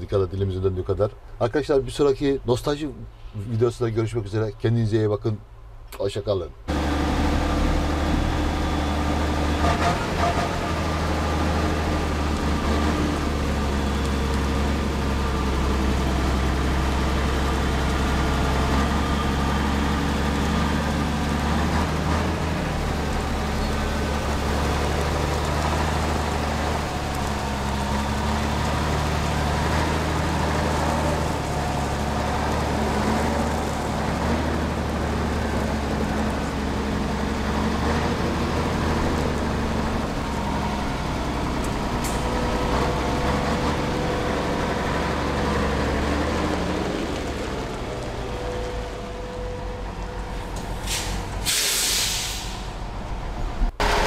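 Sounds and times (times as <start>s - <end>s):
diesel engine idling: 6.7s - 53.2s.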